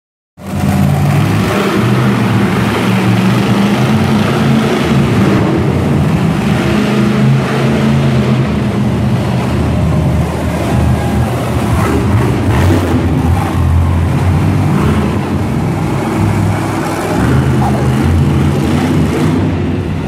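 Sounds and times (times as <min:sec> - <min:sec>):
monster truck engine running: 0:00.4 - 0:20.0.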